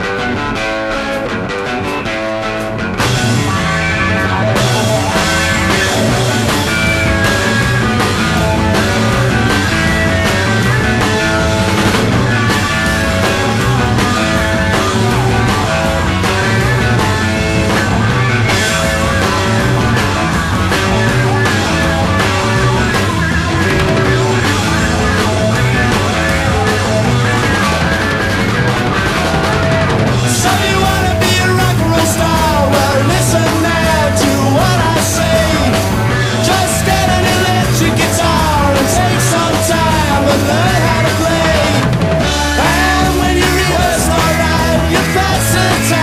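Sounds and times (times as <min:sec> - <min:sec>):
drums and cymbals: 0:00.0 - 0:46.0
live rock band playing: 0:00.0 - 0:46.0.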